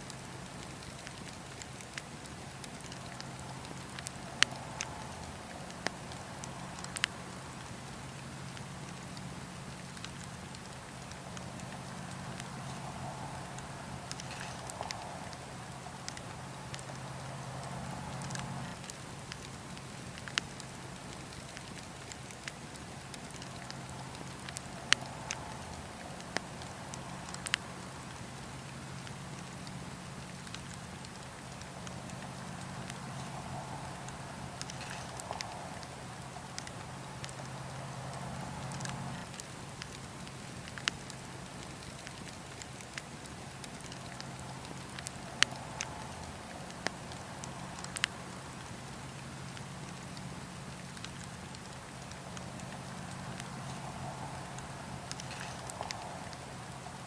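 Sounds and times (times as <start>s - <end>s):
campfire crackling and popping: 0.0s - 57.0s
low rumble of flames: 0.0s - 57.0s.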